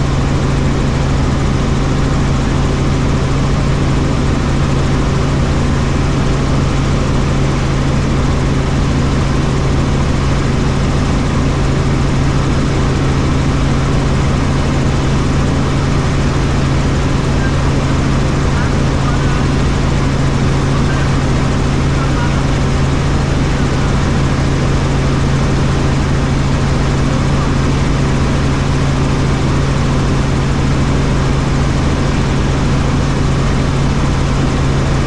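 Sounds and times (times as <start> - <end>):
helicopter in flight: 0.0 - 35.0.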